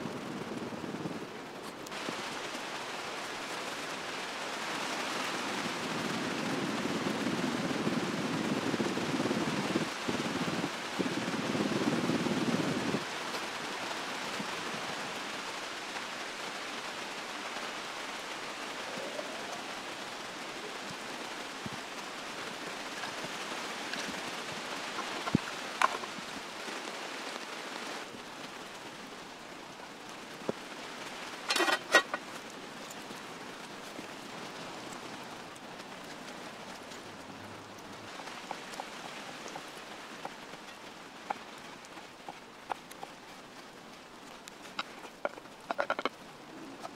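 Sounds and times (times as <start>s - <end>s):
rain falling on a tarp: 0.0s - 46.9s.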